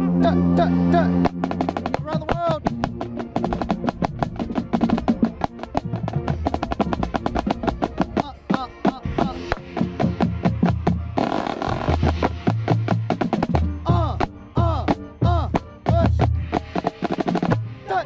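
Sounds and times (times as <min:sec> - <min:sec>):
low sousaphone and brass notes: 0:00.0 - 0:18.0
marching band playing: 0:00.0 - 0:18.0.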